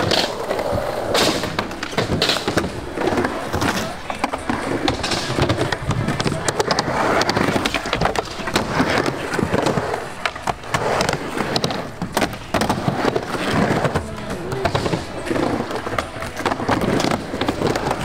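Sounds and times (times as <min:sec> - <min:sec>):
skateboard clacks and knocks: 0:00.0 - 0:18.0
skateboard wheels rolling: 0:00.0 - 0:18.0.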